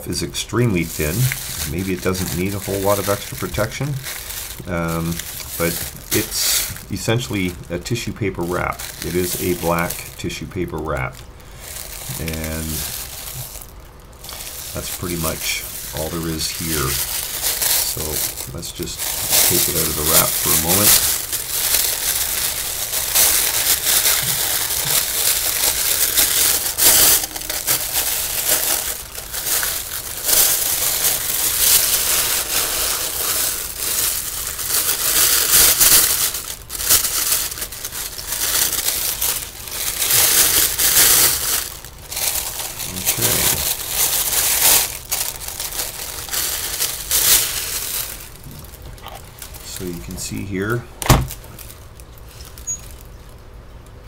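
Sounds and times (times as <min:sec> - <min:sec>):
tissue paper crinkling: 0:00.2 - 0:53.4.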